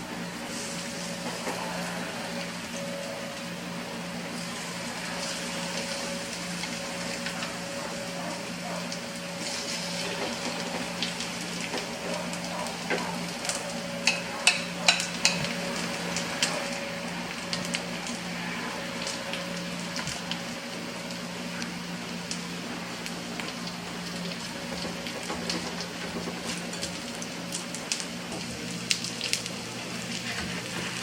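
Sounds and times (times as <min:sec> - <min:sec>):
food sizzling in a frying pan: 0:00.3 - 0:31.0.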